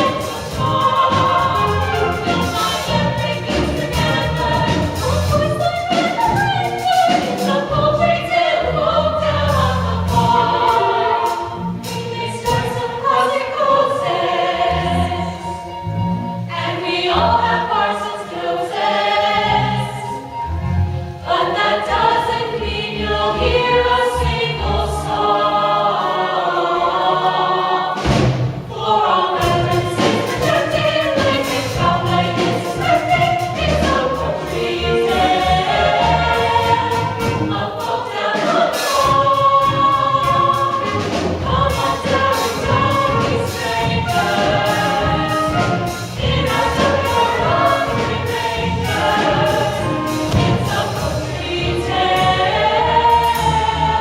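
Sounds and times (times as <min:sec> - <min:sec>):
ensemble singing with accompaniment: 0:00.0 - 0:54.0.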